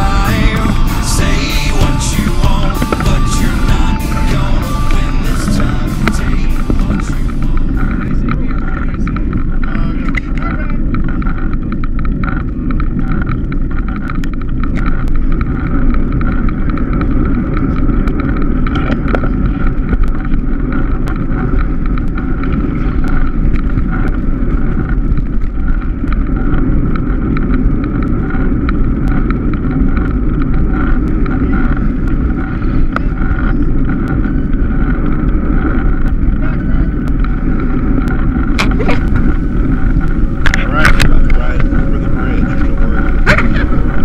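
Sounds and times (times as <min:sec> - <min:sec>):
road rumble: 0:00.0 - 0:44.0
wind rush: 0:00.0 - 0:44.0
faint clicks from bumpy ride: 0:07.4 - 0:44.0.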